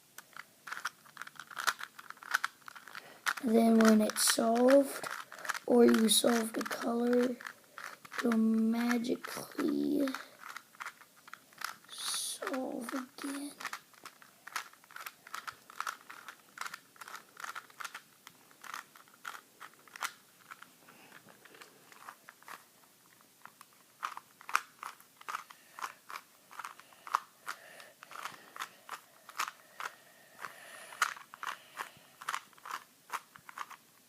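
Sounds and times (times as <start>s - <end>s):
rubik's cube layers clicking: 0.2s - 34.0s.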